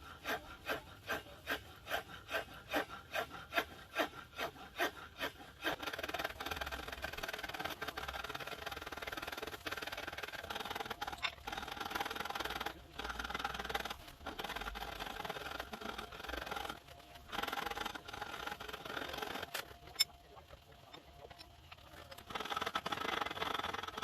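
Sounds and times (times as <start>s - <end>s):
rasp scraping wood: 0.0s - 20.1s, 22.1s - 24.0s.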